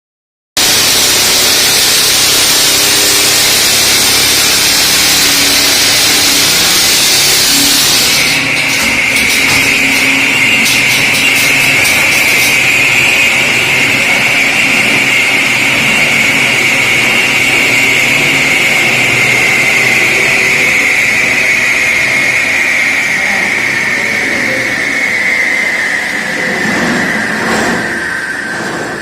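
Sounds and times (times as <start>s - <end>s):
concrete saw whining: 0.6s - 29.0s.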